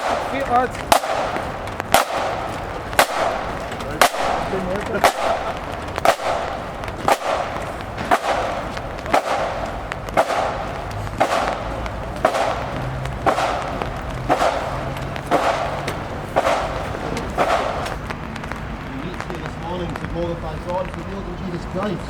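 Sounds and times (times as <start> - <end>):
drum beating steady time: 0.0 - 21.0.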